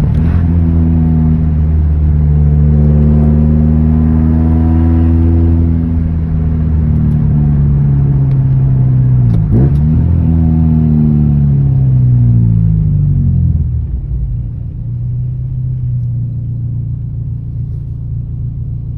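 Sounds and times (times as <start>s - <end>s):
car engine while driving: 0.0s - 18.9s.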